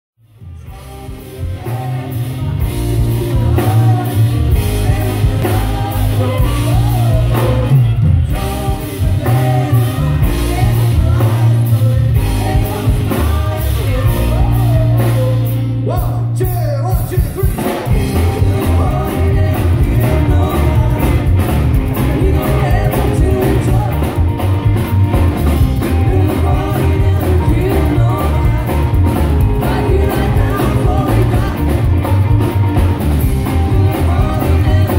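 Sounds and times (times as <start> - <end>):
rockabilly band playing live: 0.3 - 34.9
person singing: 0.5 - 24.4, 25.8 - 32.6, 33.4 - 34.9.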